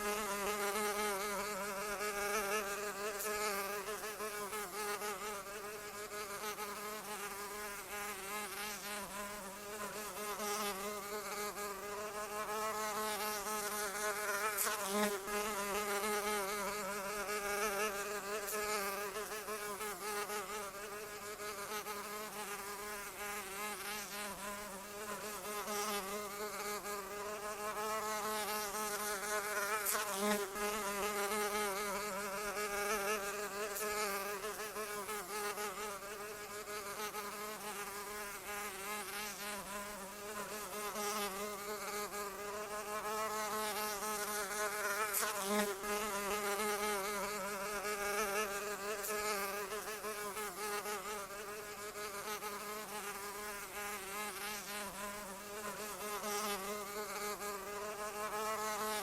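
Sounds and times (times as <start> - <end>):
insect wings buzzing: 0.0 - 59.0.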